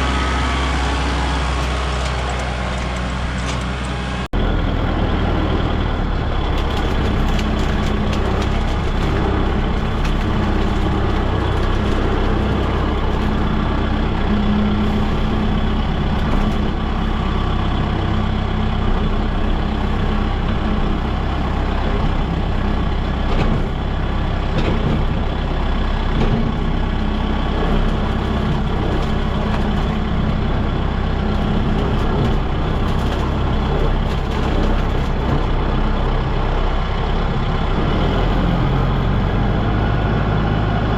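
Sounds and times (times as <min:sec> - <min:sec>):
farm machinery engine drone: 0:00.0 - 0:40.9.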